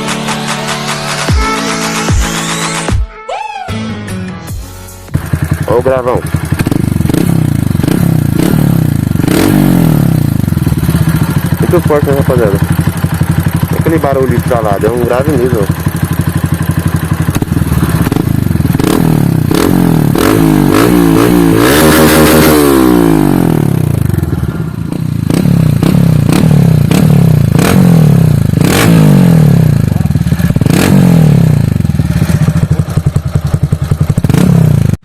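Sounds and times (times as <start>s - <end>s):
motorcycle engine revving: 5.1s - 35.0s.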